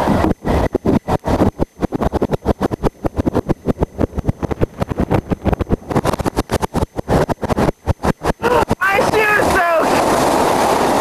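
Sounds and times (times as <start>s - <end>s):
crackling and rumbling noise: 0.0s - 11.0s.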